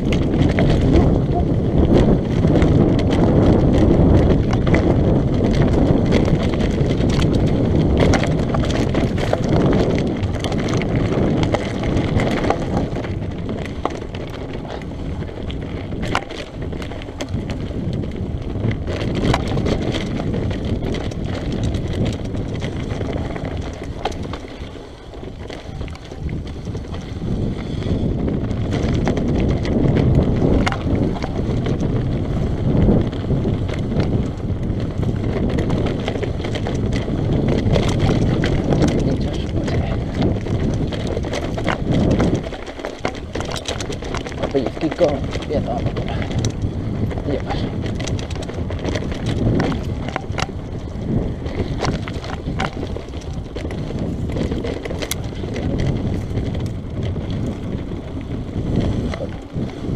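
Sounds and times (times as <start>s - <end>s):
bike knocks and rattles: 0.0s - 59.9s
tyres crunching over gravel: 0.0s - 59.9s
wind on microphone: 0.0s - 59.9s.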